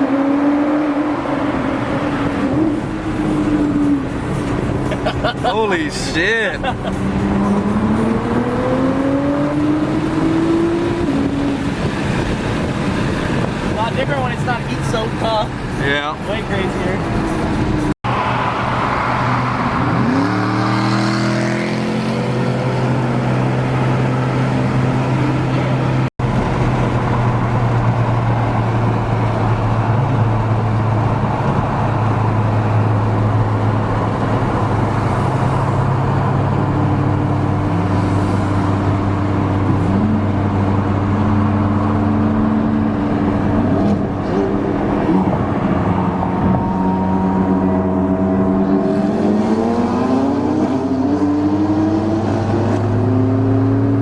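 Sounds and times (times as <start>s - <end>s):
car engine revving: 0.0s - 54.0s
road noise: 0.0s - 54.0s.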